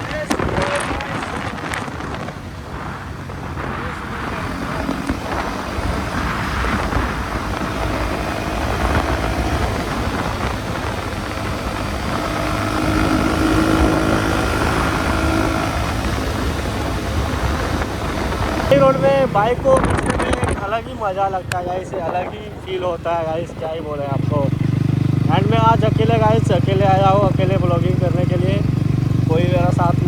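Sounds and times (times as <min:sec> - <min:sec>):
motorcycle engine running: 0:00.0 - 0:30.0
wind rushing on microphone: 0:00.0 - 0:30.0.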